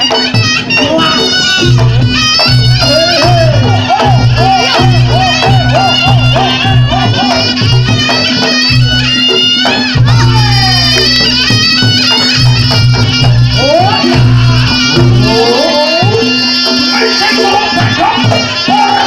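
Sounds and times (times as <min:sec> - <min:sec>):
drums: 0:00.0 - 0:19.0
shrill reed melody: 0:00.0 - 0:19.0.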